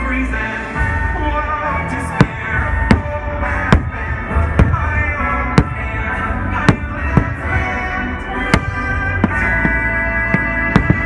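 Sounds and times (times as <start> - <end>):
music soundtrack: 0.0 - 11.0
fireworks bursting: 2.1 - 11.0.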